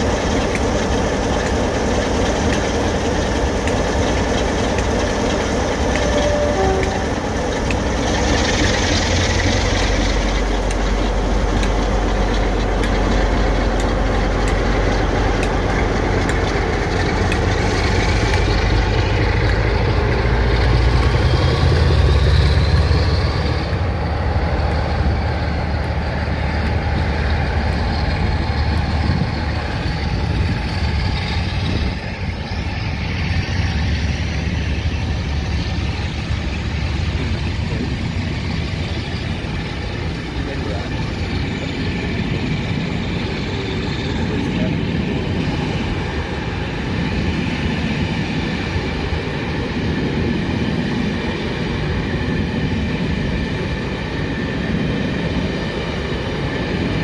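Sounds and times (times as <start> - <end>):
diesel locomotive engine working hard: 0.0 - 57.0.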